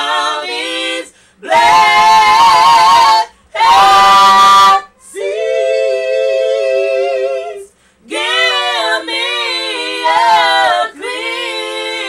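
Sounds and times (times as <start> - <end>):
women singing gospel: 0.0 - 12.0.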